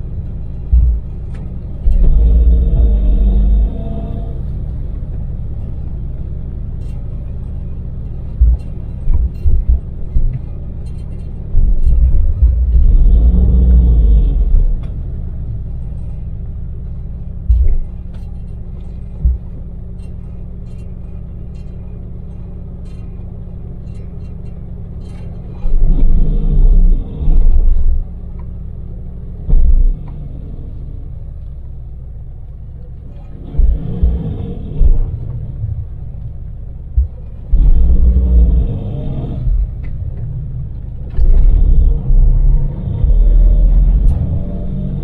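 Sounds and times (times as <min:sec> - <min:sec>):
heavy low rumbles: 0:00.0 - 0:45.0
van engine and tyres droning: 0:00.0 - 0:45.0.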